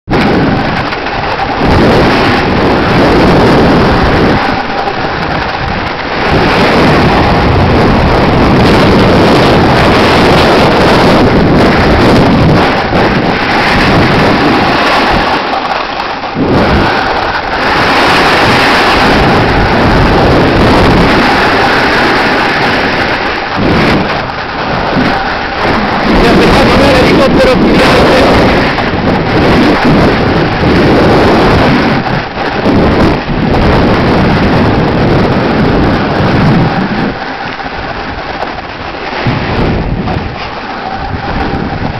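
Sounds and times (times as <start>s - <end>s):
wind buffeting microphone: 0.0s - 41.9s
snow rushing under board: 0.1s - 41.9s.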